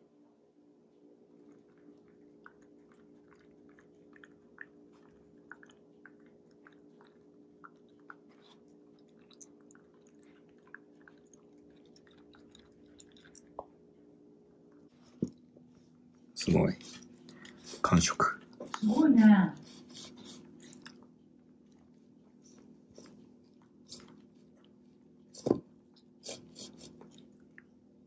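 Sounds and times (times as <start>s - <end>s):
steady low hum: 0.0s - 28.0s
dog chewing food: 1.3s - 14.2s, 16.7s - 27.7s.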